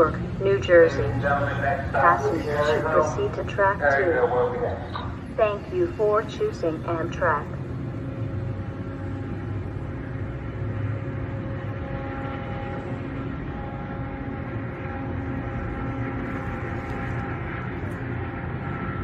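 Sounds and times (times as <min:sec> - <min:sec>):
held humming tones: 0:00.0 - 0:19.0
train rumbling: 0:00.0 - 0:19.0.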